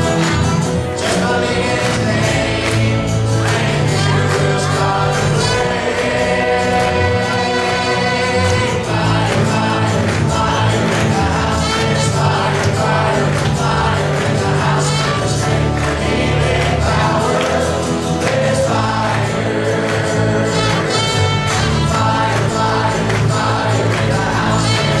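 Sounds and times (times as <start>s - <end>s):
congregation singing: 0.0s - 25.0s
electric guitars: 0.0s - 25.0s.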